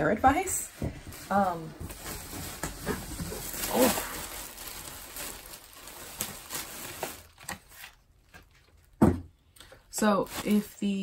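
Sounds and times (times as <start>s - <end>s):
plastic packaging crinkling: 1.1s - 9.0s, 10.0s - 11.0s.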